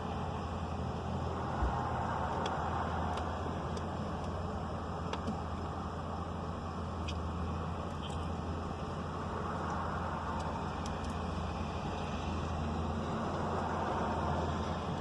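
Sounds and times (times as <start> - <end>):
car idling: 0.0 - 15.0.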